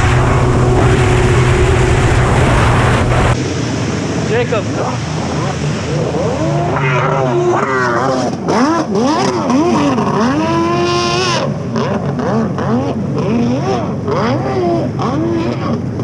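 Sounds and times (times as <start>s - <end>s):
jet ski engine revving: 0.0s - 16.0s.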